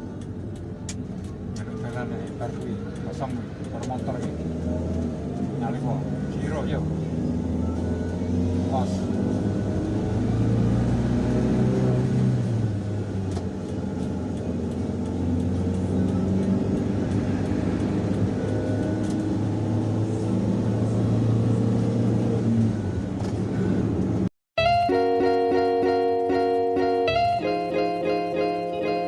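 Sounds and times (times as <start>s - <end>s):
van engine and road noise: 0.0s - 29.0s.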